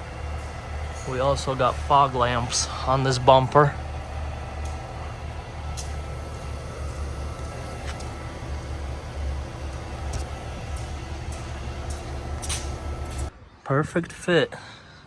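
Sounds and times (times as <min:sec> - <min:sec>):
diesel truck engine idling: 0:00.0 - 0:13.3.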